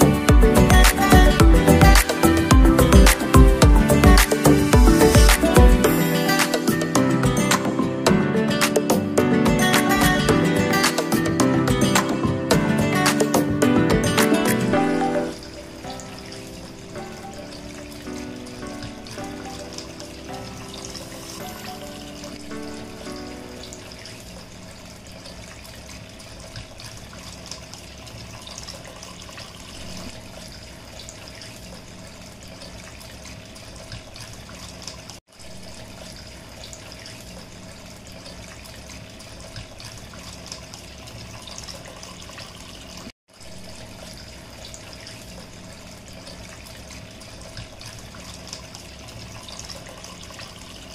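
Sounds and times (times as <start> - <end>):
fountain water trickling: 0.0 - 7.8, 14.8 - 50.9.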